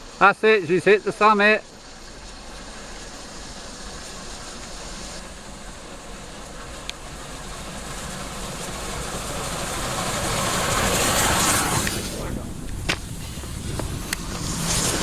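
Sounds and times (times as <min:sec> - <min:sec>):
steam locomotive rushing: 0:00.0 - 0:15.0.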